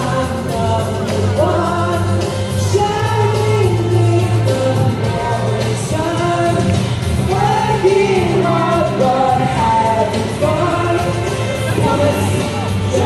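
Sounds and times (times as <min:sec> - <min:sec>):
song with singing over backing track: 0:00.0 - 0:13.0.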